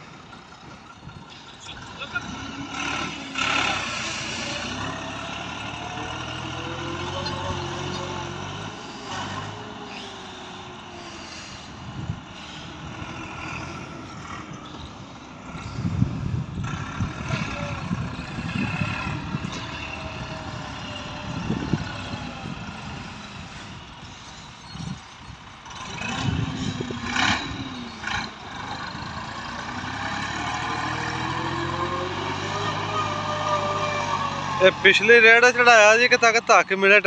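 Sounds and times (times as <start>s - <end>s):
tractor engine labouring: 0.0s - 37.0s.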